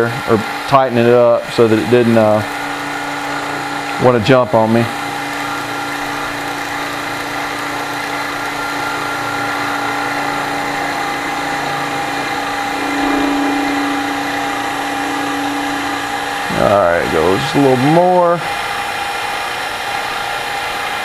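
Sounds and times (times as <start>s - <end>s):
milling machine whine: 0.0s - 21.0s.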